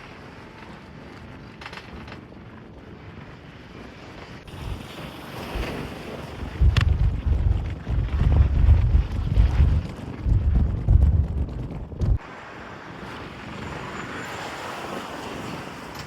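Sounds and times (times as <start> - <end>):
wind buffeting microphone: 0.6 - 15.9
low rumbling wind gusts: 2.5 - 15.9.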